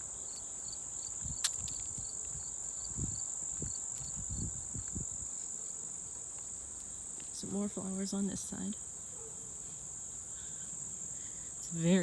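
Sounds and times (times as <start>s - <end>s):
crickets trilling: 0.0s - 12.0s
soft footsteps on trail: 0.0s - 12.0s.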